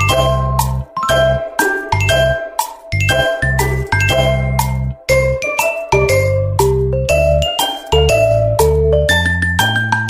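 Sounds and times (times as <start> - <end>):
light tune with bass line: 0.0 - 10.0.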